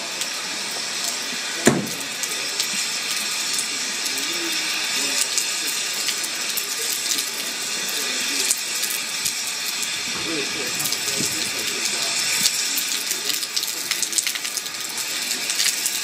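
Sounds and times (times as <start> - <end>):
rain falling and splashing: 0.0 - 16.0.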